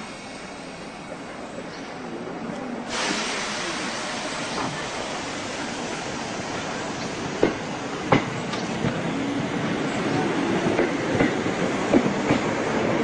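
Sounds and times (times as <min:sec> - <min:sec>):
train pulling away: 0:00.0 - 0:13.0.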